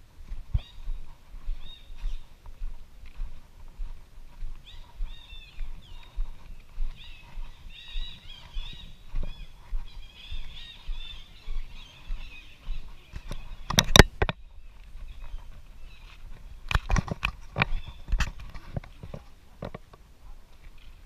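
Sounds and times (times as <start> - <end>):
birds chirping: 0.2 - 21.0.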